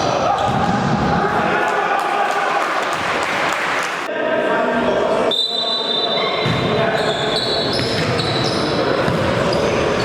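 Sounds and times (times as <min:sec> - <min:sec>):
players' voices echoing: 0:00.0 - 0:10.0.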